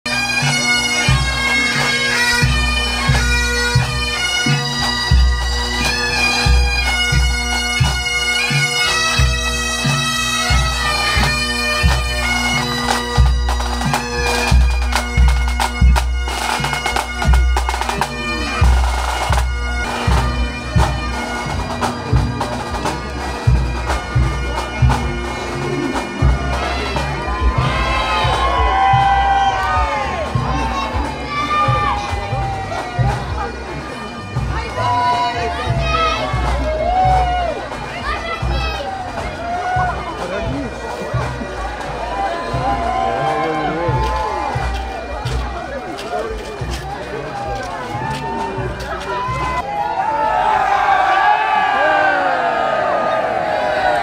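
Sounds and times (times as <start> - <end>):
bagpipes playing a tune: 0.1 - 49.6
drums beating march rhythm: 0.1 - 54.0.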